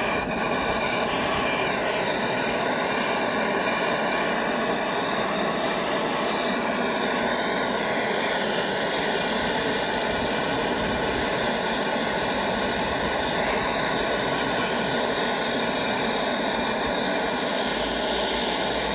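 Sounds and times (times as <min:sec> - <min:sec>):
gas torch flame rushing: 0:00.0 - 0:18.9.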